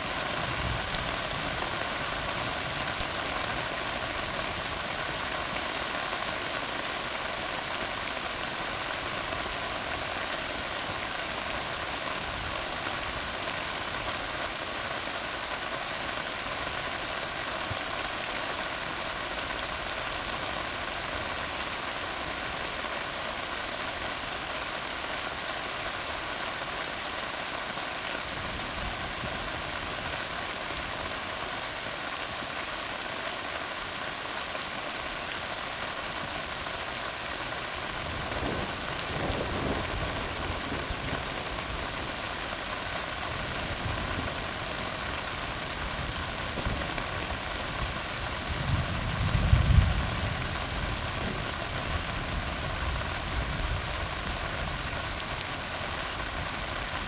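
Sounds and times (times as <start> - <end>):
rain falling on road: 0.0 - 57.0.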